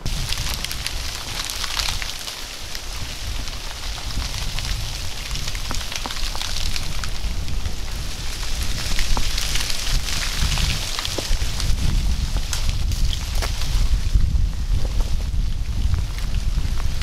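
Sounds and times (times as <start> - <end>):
small icy ticks: 0.0 - 13.9
freezing rain hissing: 0.0 - 17.0
wind rumble on microphone: 0.0 - 17.0.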